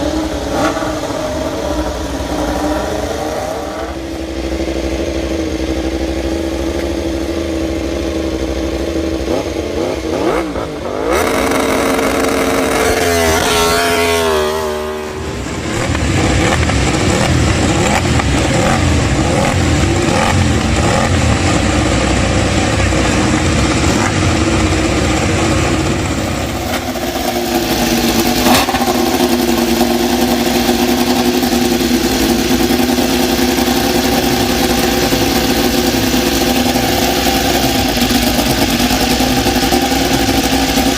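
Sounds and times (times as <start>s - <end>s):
racing motorcycle engines revving: 0.0s - 40.9s.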